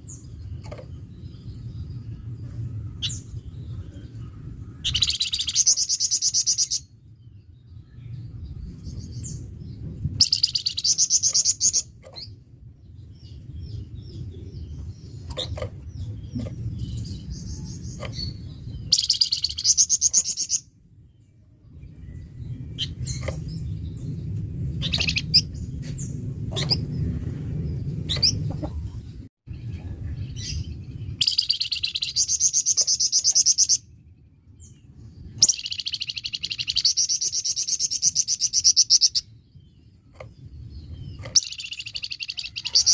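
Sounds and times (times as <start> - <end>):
steady low rumble: 0.0 - 42.6
songbird chattering song: 0.0 - 42.9.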